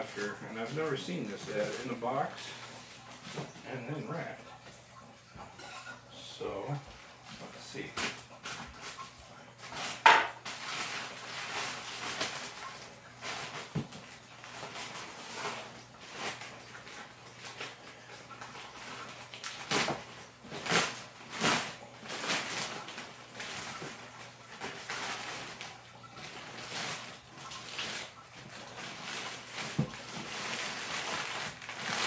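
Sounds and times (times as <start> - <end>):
plastic bag rustling: 0.0 - 4.7, 6.9 - 32.0.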